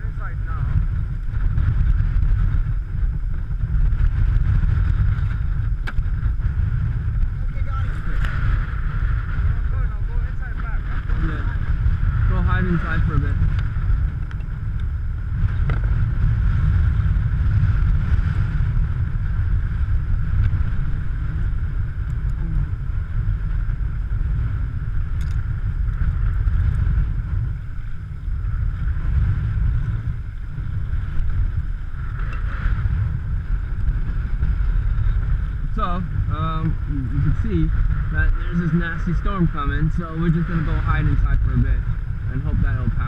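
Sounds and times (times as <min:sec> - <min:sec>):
storm wind buffeting microphone: 0:00.0 - 0:43.0.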